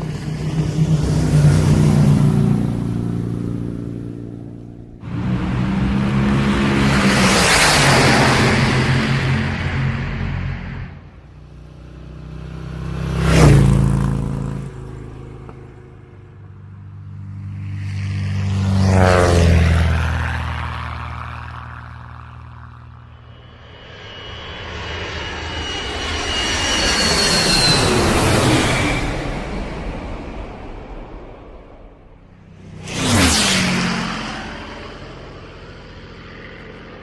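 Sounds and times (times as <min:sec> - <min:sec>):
aircraft engine flying by: 0:00.0 - 0:37.0
high engine whine: 0:00.0 - 0:37.0.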